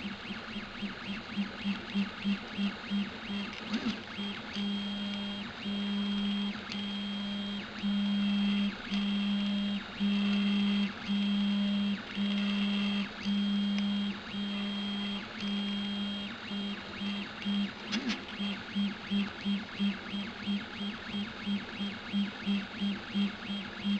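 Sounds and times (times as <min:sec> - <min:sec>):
printer stepper motors whining: 0:00.0 - 0:23.9.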